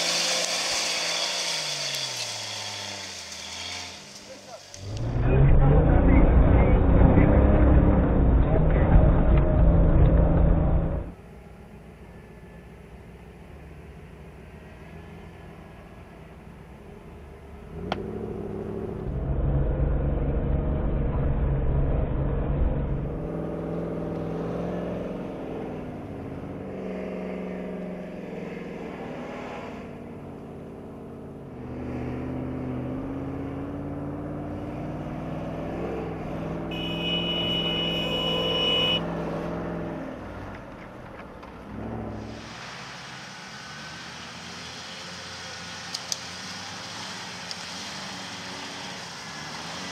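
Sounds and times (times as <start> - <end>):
car engine revving and labouring: 0.0 - 49.9.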